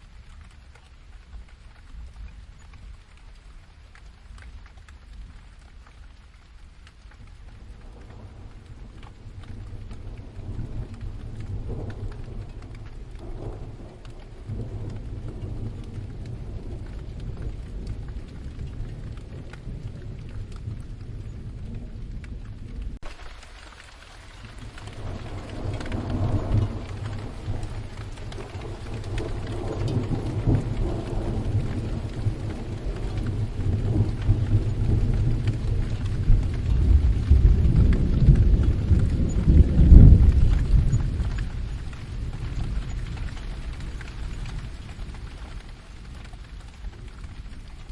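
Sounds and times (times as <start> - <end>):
steady rain: 0.0 - 47.9
low rolling thunder: 6.5 - 47.9.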